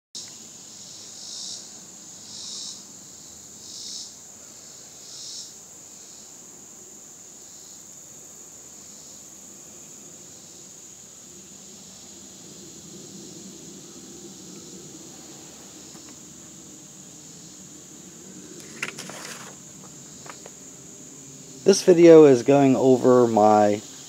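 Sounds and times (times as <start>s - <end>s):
insects droning: 0.2s - 24.0s.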